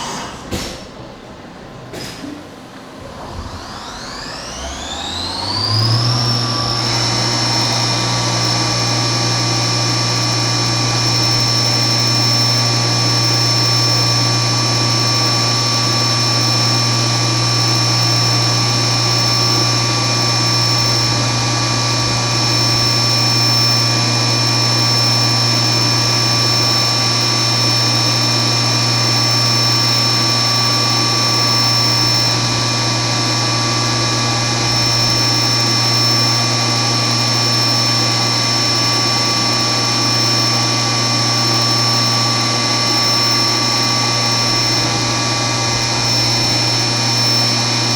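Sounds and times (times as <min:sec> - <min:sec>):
milling machine spindle whining: 0:00.0 - 0:47.9.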